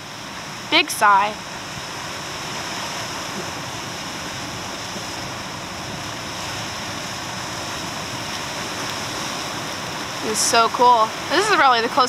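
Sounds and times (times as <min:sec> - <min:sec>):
ocean surf over rocks: 0:00.0 - 0:12.0.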